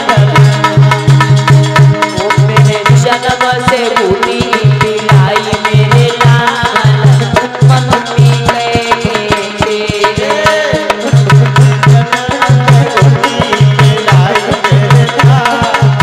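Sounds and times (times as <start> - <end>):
devotional music over loudspeakers: 0.0 - 16.0
hand drum beating: 0.0 - 16.0.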